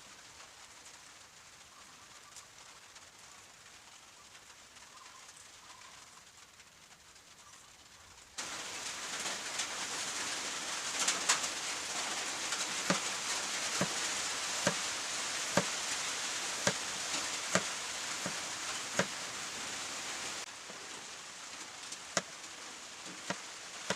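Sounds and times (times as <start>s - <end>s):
heavy rain falling: 0.0s - 23.9s
water dripping on hard surface: 0.2s - 23.9s.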